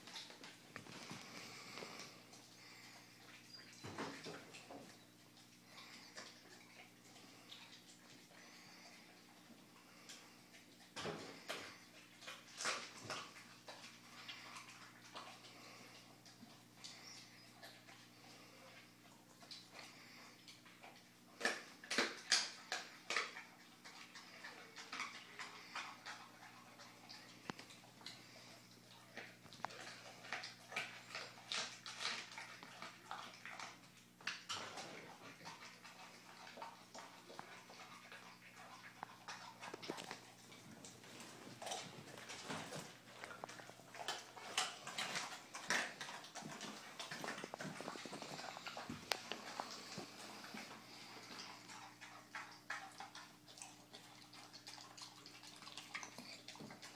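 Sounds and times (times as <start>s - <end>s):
dog chewing wetly: 0.0s - 56.9s.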